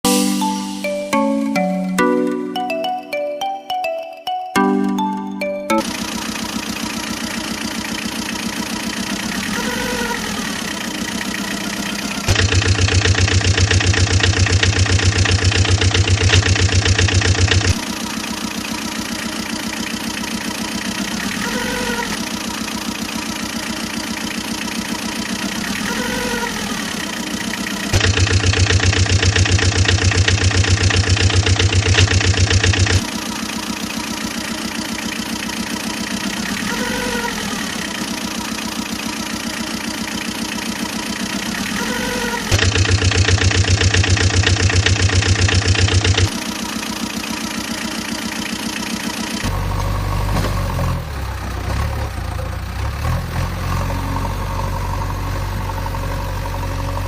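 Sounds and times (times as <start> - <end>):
vehicle engine running: 5.8 - 57.0.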